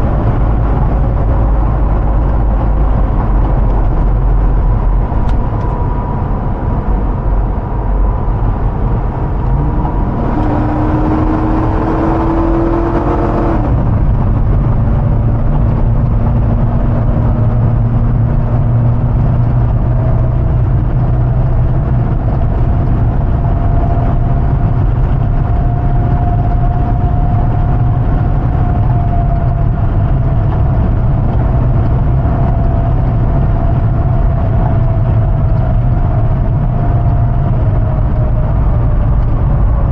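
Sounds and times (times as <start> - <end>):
engine droning on the move: 0.0 - 39.9.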